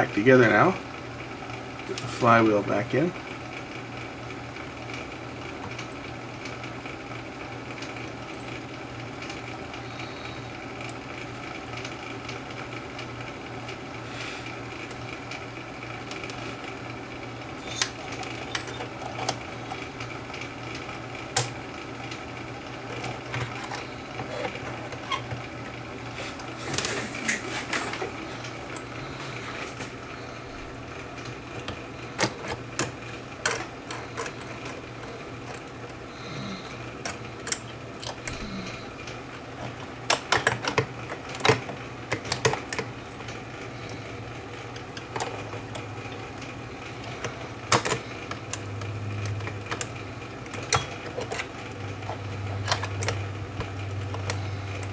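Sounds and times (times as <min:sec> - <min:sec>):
steady background hum: 0:00.0 - 0:54.9.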